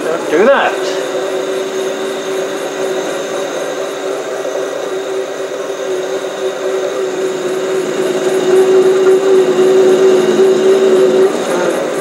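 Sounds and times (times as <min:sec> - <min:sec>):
lathe running: 0:00.0 - 0:12.0
steady pitched whine: 0:00.0 - 0:12.0.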